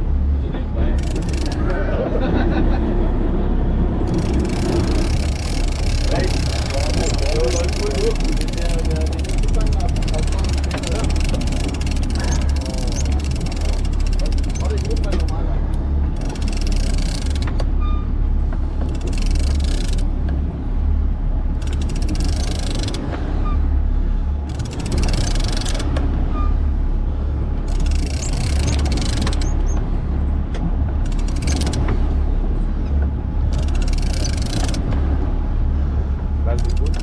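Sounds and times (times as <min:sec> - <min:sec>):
boat engine rumbling: 0:00.0 - 0:37.0.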